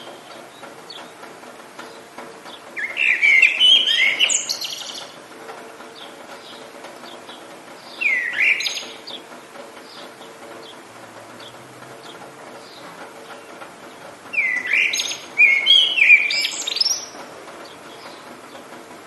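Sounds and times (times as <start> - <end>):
songbird singing: 0.0 - 18.8
rain hiss: 0.0 - 19.0.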